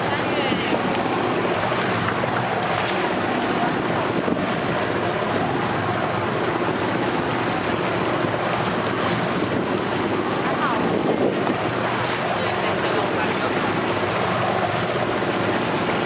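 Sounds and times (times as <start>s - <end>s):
boat engine droning: 0.0s - 16.0s
choppy water washing: 0.0s - 16.0s
wind buffeting microphone: 0.0s - 16.0s.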